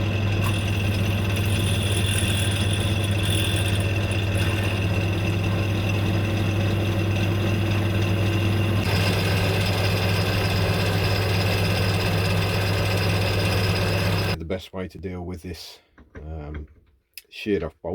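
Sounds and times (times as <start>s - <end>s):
machine hum with low drone: 0.0s - 14.4s.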